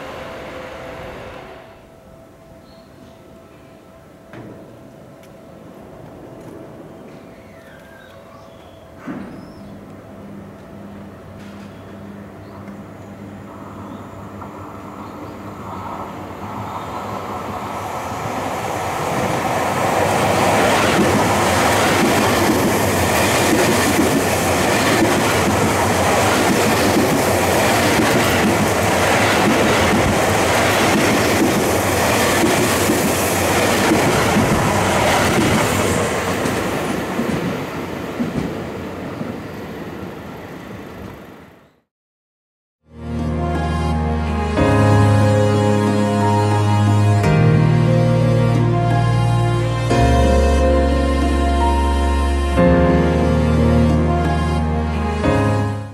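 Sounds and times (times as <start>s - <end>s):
electric train passing: 0.0s - 41.7s, 43.0s - 55.7s.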